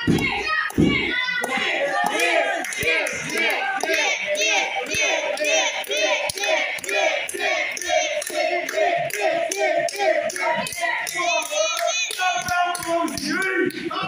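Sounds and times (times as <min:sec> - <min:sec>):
crowd chanting in unison: 0:00.0 - 0:14.0
crowd clapping: 0:00.0 - 0:14.0.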